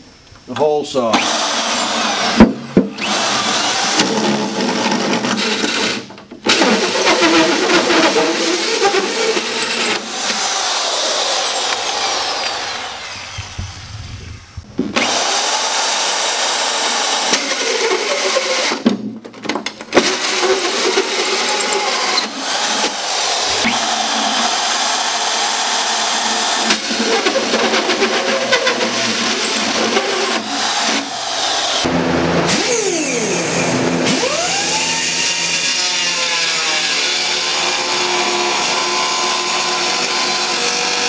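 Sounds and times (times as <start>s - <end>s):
electric drill cutting with hole saw: 1.1s - 14.2s, 14.9s - 18.8s, 19.9s - 41.0s.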